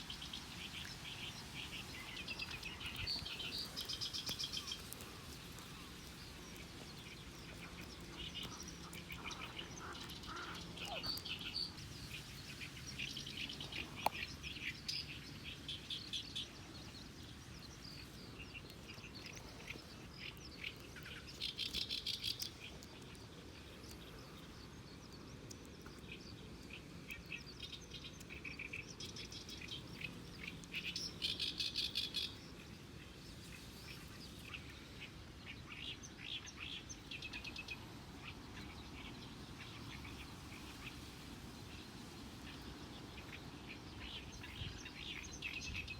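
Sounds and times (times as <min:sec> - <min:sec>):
wild birds chirping: 0:00.0 - 0:45.9.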